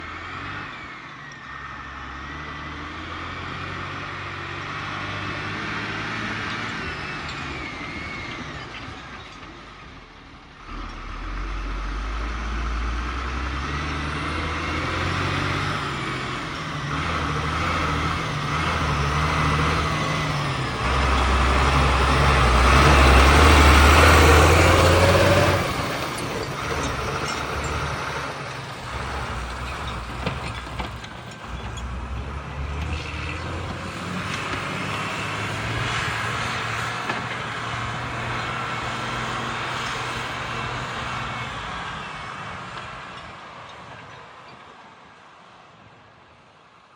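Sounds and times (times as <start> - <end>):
tractor diesel engine under load: 0.0 - 45.2.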